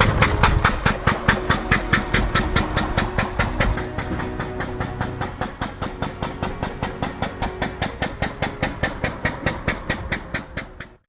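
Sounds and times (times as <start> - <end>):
single-cylinder engine driving past: 0.0 - 11.0.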